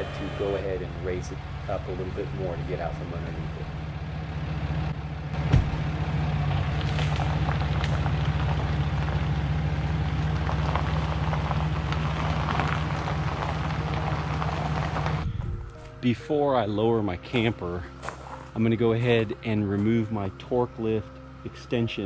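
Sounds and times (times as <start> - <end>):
gravel crackling under tyres: 0.0 - 22.0
pickup truck engine running: 0.0 - 22.0.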